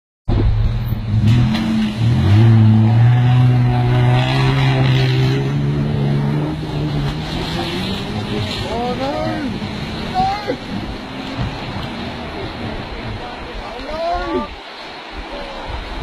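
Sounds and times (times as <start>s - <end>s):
water rushing and splashing: 0.3s - 16.0s.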